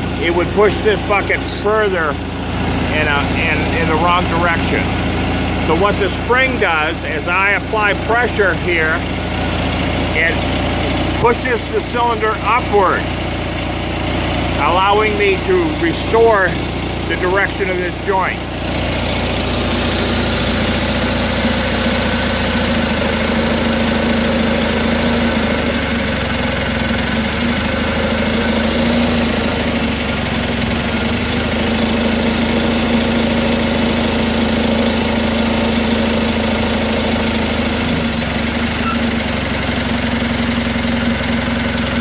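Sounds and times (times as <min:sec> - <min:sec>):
garden tractor engine running: 0:00.0 - 0:42.0.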